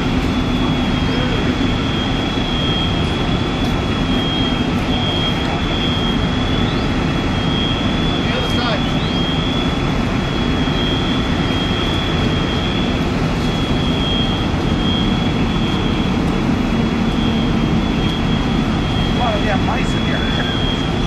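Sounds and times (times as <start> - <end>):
engine roar: 0.0 - 21.0
high-pitched whine: 0.0 - 21.0.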